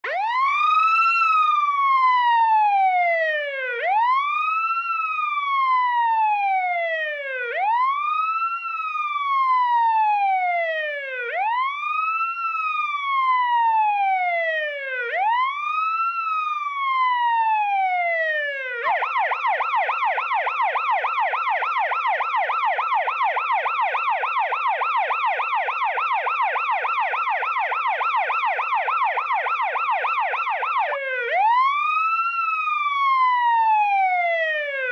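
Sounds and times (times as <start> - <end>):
emergency vehicle siren: 0.0 - 34.9.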